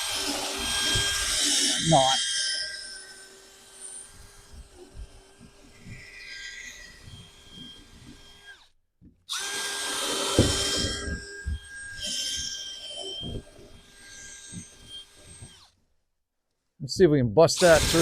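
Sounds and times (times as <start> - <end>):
power drill boring into wood: 0.0 - 8.7, 9.3 - 15.8, 17.6 - 18.0
drill bit grinding knocks: 0.0 - 15.7.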